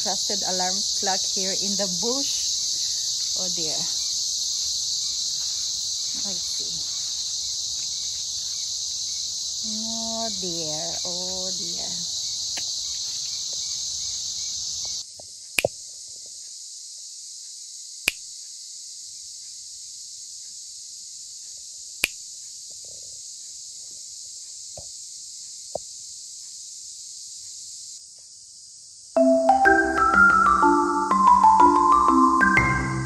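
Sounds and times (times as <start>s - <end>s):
cicadas droning: 0.0s - 33.0s.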